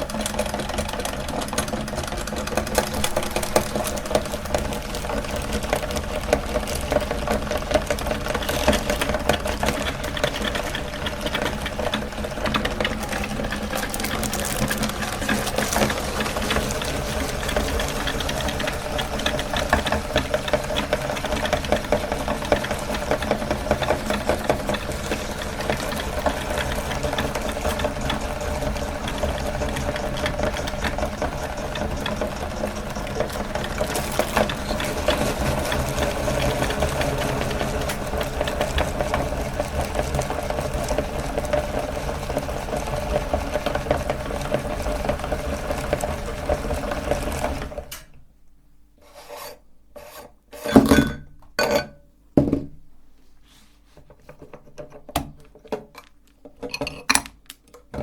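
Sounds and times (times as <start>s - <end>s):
electric meat grinder rattling: 0.0s - 48.0s.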